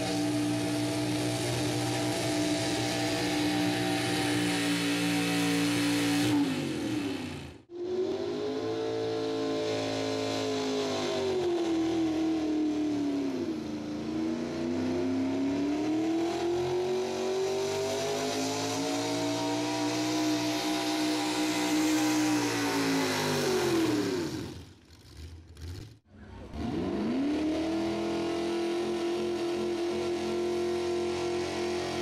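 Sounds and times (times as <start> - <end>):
truck engine at full throttle: 0.0 - 32.0.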